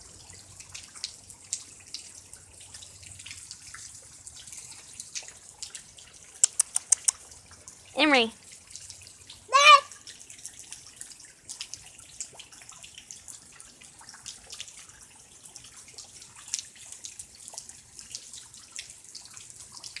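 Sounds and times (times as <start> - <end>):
faint rain patter: 0.0 - 20.0.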